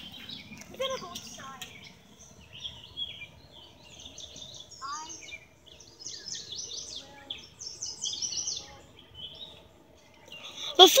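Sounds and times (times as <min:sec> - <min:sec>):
songbirds chirping and singing: 0:00.0 - 0:11.0.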